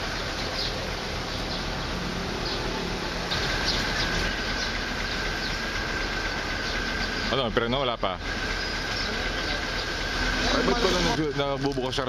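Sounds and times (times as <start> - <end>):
high bird chirps: 0.0 - 10.7
outdoor background noise: 0.0 - 12.0.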